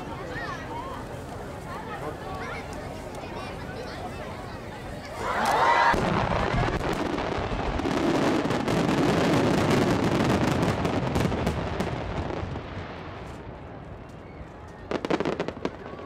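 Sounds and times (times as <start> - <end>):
fireworks bursts rumbling: 0.0 - 16.0
fireworks crackling: 0.0 - 16.0.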